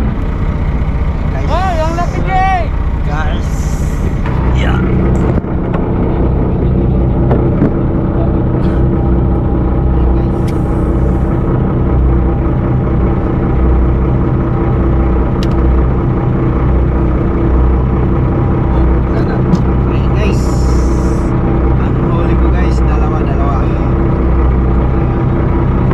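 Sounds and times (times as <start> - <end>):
engine droning: 0.0 - 25.9.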